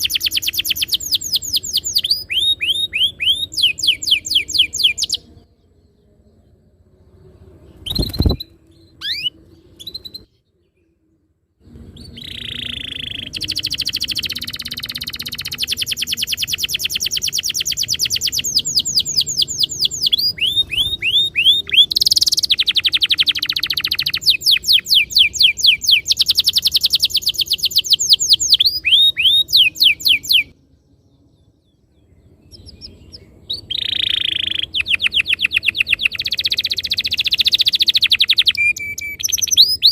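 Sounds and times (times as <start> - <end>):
canary singing trills: 0.0 - 6.6, 7.2 - 10.9, 11.8 - 30.6, 31.2 - 39.9.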